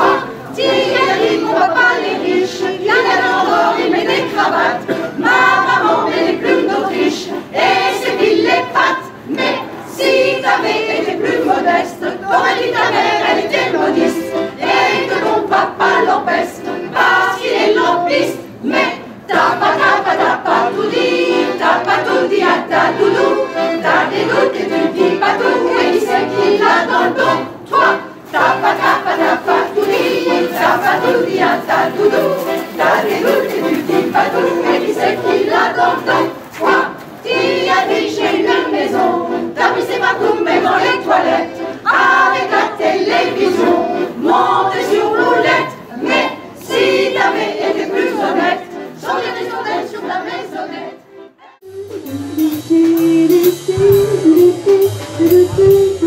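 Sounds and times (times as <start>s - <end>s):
accordion: 0.0s - 56.0s
mixed choir singing: 0.0s - 56.0s.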